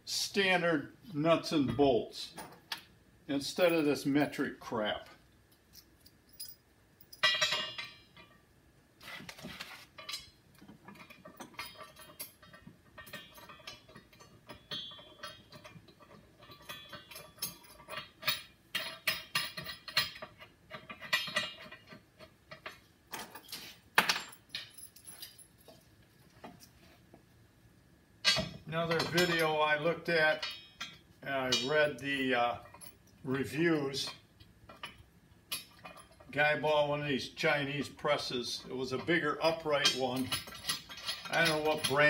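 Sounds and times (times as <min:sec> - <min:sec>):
nuts and bolts clinking: 0:01.6 - 0:26.8, 0:28.2 - 0:36.7, 0:38.4 - 0:42.0.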